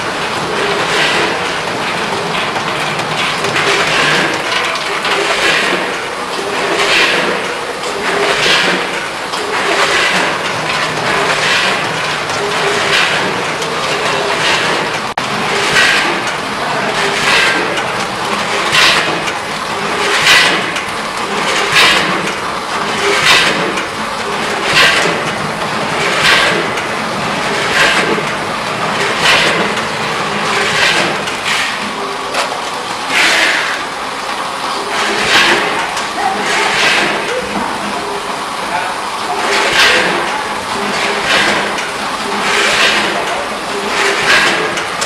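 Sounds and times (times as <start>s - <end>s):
packing machine running: 0.0s - 45.0s.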